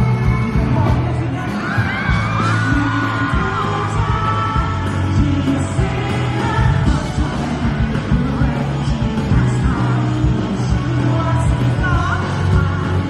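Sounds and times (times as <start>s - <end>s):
lead vocal singing: 0.0s - 13.0s
pop-rock band music: 0.0s - 13.0s.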